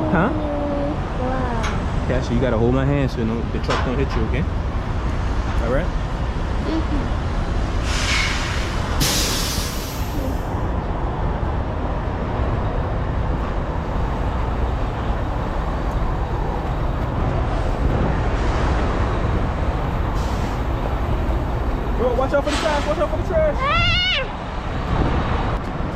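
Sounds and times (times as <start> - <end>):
diesel truck engines rumbling: 0.0 - 25.9.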